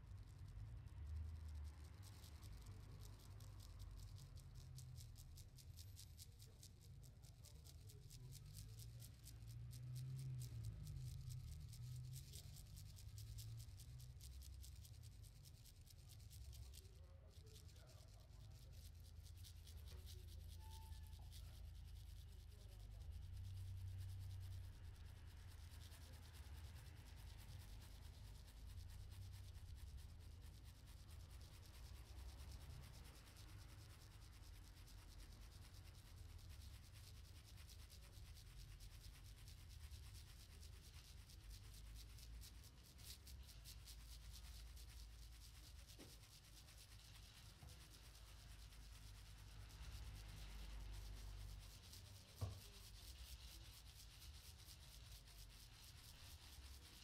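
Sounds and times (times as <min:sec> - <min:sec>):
faint rubbing sounds: 0:00.0 - 0:57.0.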